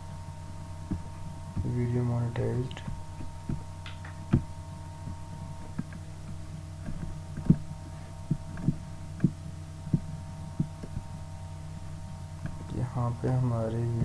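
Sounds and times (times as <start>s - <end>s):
soft low thumps: 0.0s - 14.0s
steady electrical hum: 0.0s - 14.0s.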